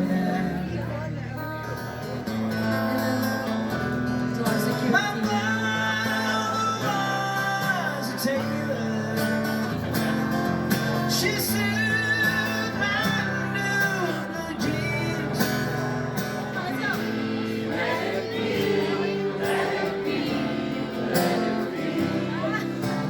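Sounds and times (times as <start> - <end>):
country song with guitar: 0.0 - 23.0.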